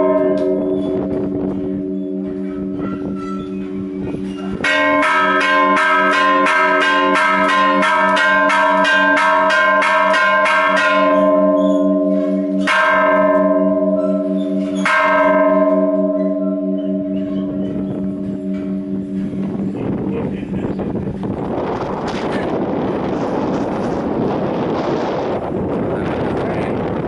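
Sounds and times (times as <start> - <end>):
church bells ringing loudly: 0.0 - 27.0.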